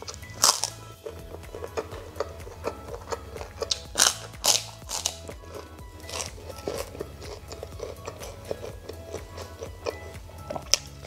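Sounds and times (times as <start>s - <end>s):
cracker crunching: 0.0s - 11.0s
soft background music: 0.0s - 11.0s.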